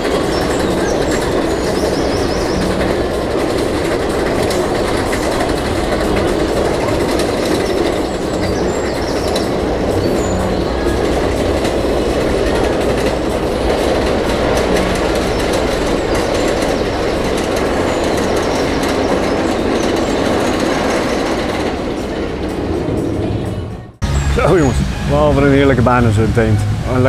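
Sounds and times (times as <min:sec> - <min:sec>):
wheel squeal: 0:00.0 - 0:25.6
roller coaster wheels rumbling: 0:00.0 - 0:27.0.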